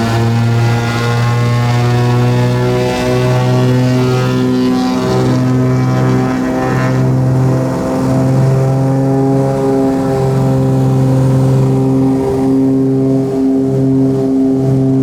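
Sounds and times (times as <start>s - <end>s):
twin propeller engines droning: 0.0s - 15.0s.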